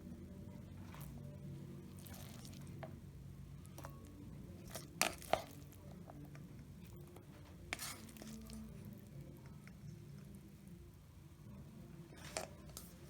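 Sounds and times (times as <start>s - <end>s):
low steady hum: 0.0s - 13.0s
spoon squishing soft rice: 0.2s - 13.0s.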